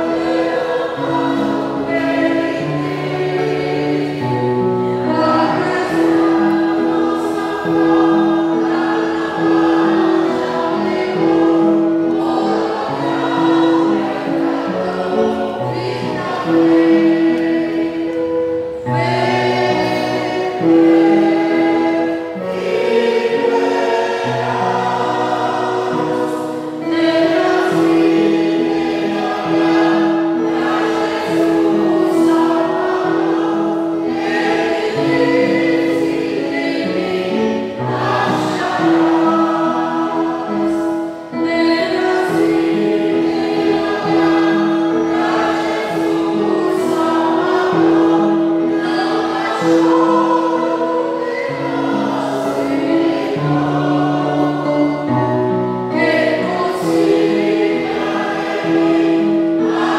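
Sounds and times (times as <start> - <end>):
gospel choir singing held chords: 0.0 - 59.9.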